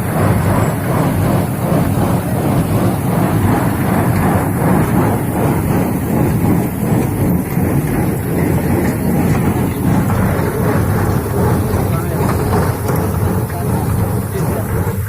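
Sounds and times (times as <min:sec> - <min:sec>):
baler mechanical clatter: 0:00.0 - 0:15.0
tractor engine drone: 0:00.0 - 0:15.0.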